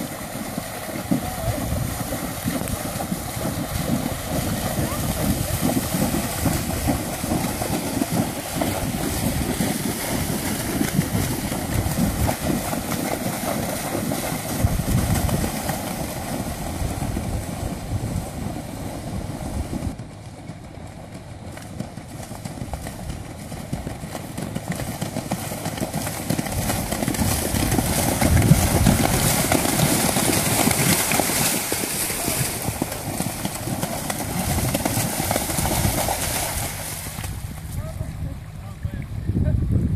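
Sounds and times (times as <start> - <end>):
horses splashing through water: 0.0 - 39.1.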